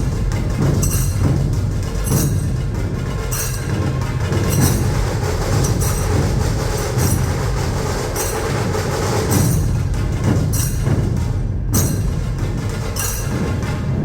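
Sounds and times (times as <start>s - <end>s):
cymbal-like clash: 0.0s - 13.8s
dhol drums beating: 0.0s - 14.0s
tasha drums rattling: 0.0s - 14.0s.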